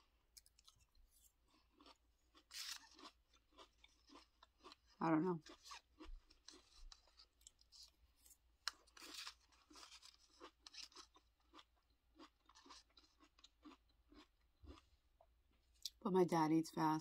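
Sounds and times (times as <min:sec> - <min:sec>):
faint cereal chewing crunches: 0:00.0 - 0:16.0.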